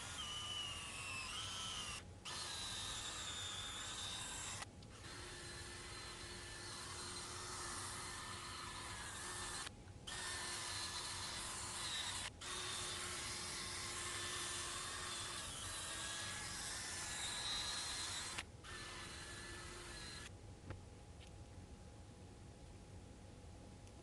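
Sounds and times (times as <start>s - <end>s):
electric drill motor whine: 0.0s - 20.3s.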